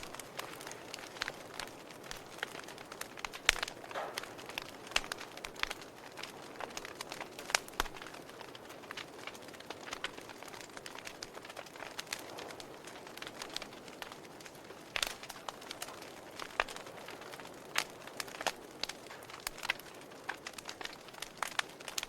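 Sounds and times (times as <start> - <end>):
fire popping and snapping: 0.0 - 22.0
soft fire hiss: 0.0 - 22.0
wood fire crackling: 0.0 - 22.0.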